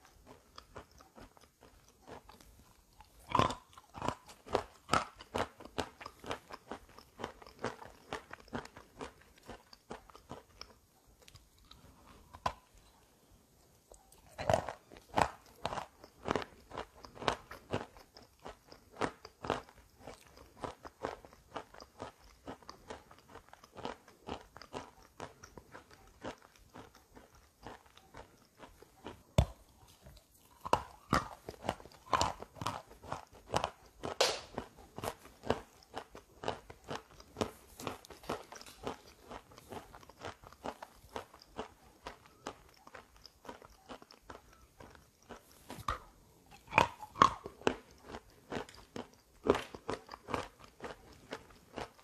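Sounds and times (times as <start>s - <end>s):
chalk crunching while chewed: 0.0s - 52.0s.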